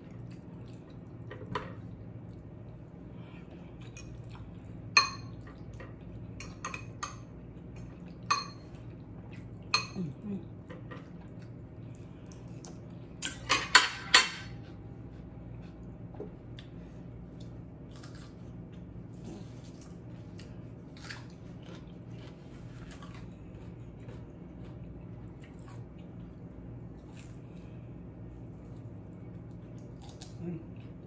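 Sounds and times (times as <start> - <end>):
chewing and mouth sounds: 0.0 - 6.4, 7.3 - 13.3, 14.5 - 31.0
low steady hum: 0.0 - 31.0.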